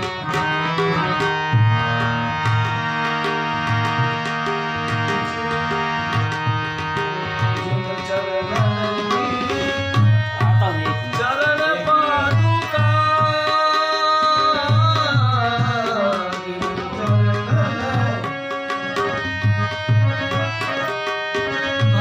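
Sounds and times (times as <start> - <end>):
held accompanying notes: 0.0 - 22.0
tabla beat: 0.0 - 22.0.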